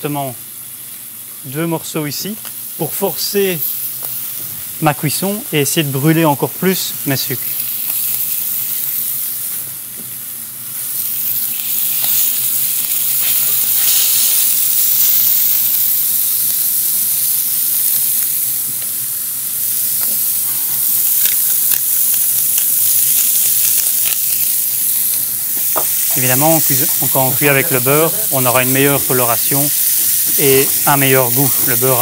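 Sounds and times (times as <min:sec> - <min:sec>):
steak searing in frying pan: 0:00.0 - 0:32.0.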